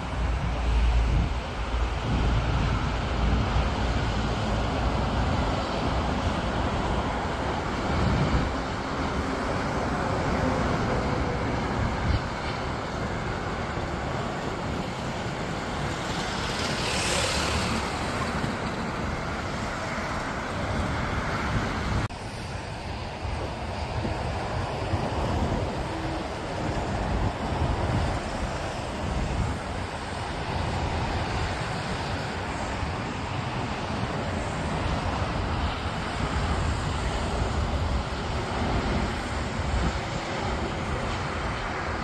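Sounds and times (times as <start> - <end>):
jet engines roaring: 0.0 - 42.0
wind buffeting microphone: 0.0 - 42.0.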